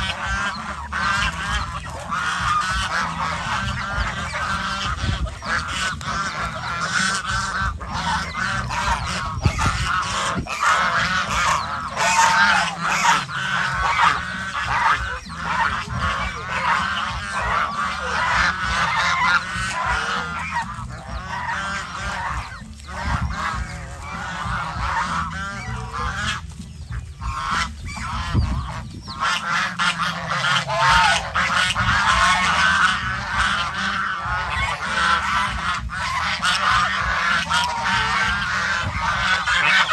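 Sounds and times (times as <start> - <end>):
ducks quacking: 0.0 - 39.9
geese honking: 0.0 - 39.9.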